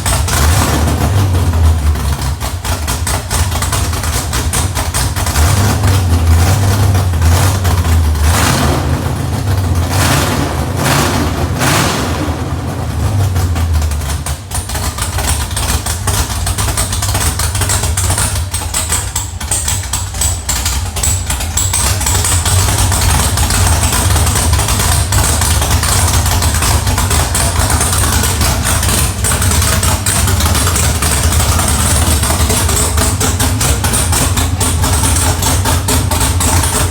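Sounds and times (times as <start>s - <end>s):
car engine revving and idling: 0.0s - 36.9s.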